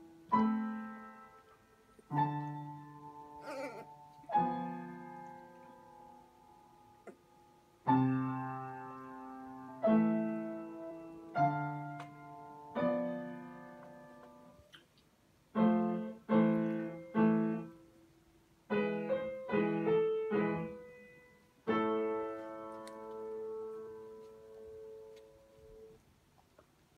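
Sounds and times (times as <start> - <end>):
slow solo piano chords: 0.0 - 14.6, 15.5 - 26.6.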